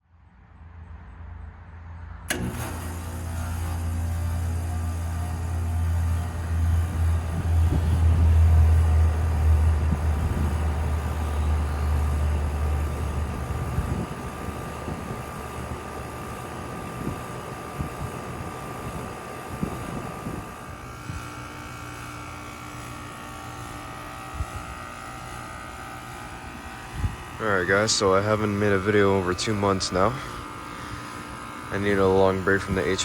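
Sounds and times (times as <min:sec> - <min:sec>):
mechanical hum with high whine: 0:00.1 - 0:33.0
deep loud hum: 0:02.3 - 0:33.0.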